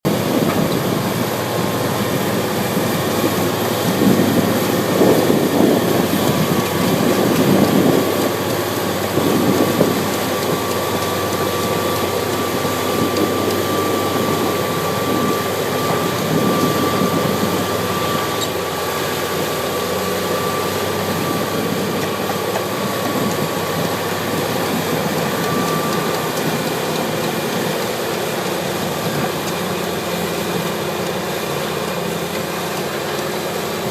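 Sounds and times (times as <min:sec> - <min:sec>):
bulldozer diesel engine running: 0:00.0 - 0:33.9
thin steady whine: 0:00.1 - 0:33.9.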